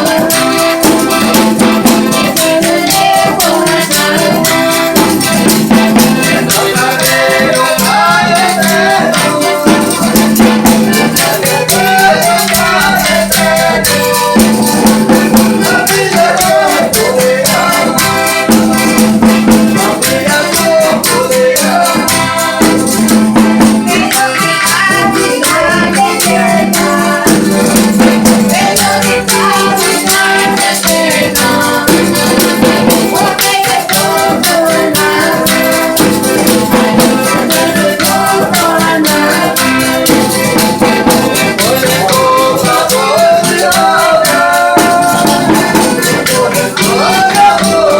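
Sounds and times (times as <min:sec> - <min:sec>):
shaken percussion: 0:00.0 - 0:47.9
voices singing: 0:00.0 - 0:47.9.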